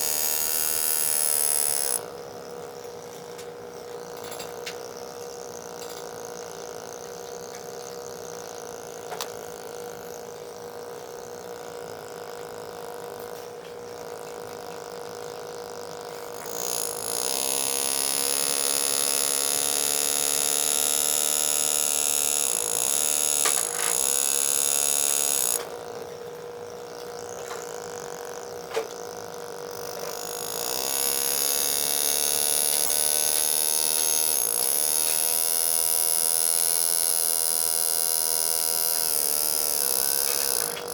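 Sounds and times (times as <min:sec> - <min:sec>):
engraving handpiece buzzing on steel: 0:00.0 - 0:40.9.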